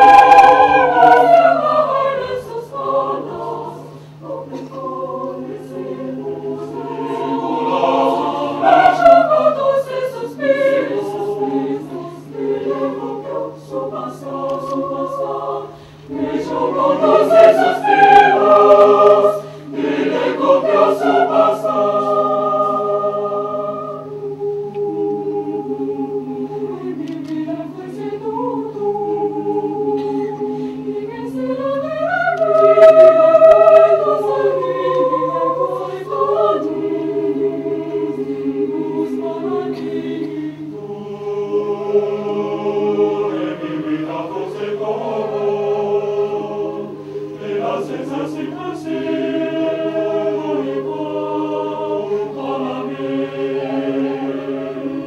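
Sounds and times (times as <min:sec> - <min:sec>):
low steady hum: 0:00.0 - 0:55.0
mixed choir singing a cappella: 0:00.0 - 0:55.0.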